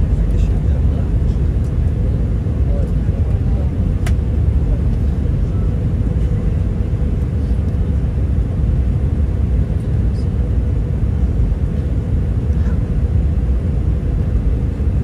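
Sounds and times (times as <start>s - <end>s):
airplane cabin engine rumble: 0.0s - 15.0s
faint constant hum: 0.0s - 15.0s.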